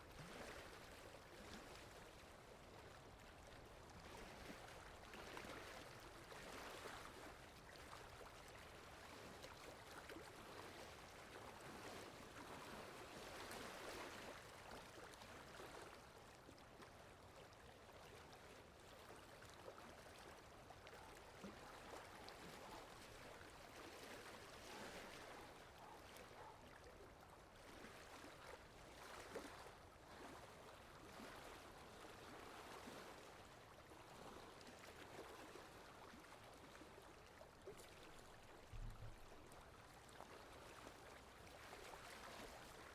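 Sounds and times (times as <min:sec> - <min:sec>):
water lapping: 0:00.0 - 0:42.9
wind: 0:00.0 - 0:42.9.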